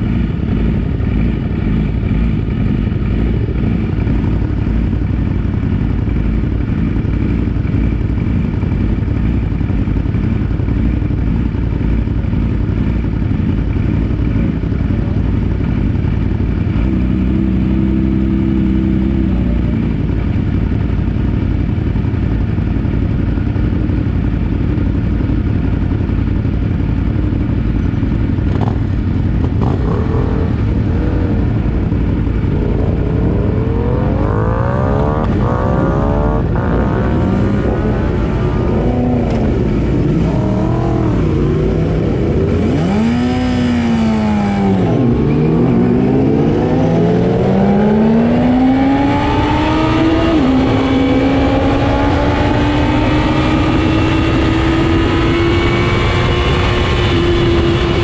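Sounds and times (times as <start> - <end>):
motorcycle engines idling: 0.0 - 46.6.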